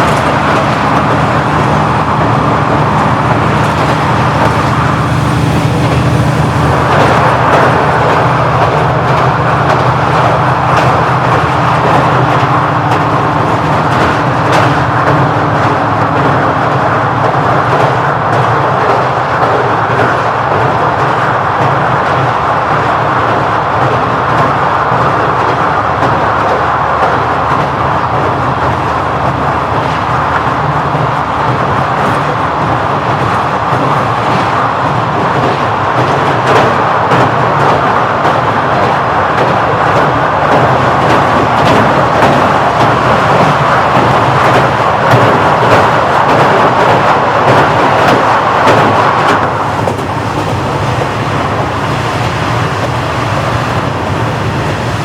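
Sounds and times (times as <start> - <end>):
diesel railcar engine drone: 0.0 - 55.0
rail running noise: 0.0 - 55.0.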